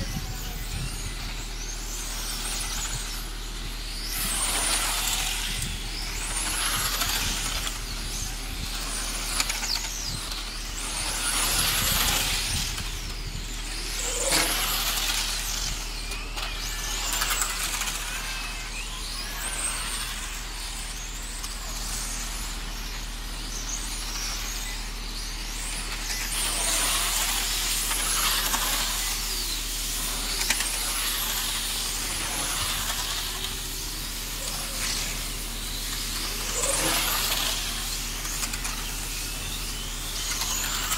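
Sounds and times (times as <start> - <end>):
electric toy car motors whining: 0.0 - 40.9.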